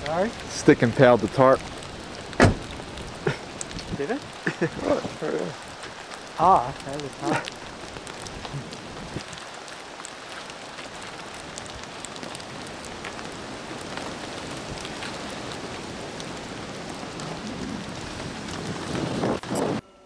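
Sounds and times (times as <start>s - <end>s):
rain on plastic tarp: 0.0s - 19.8s.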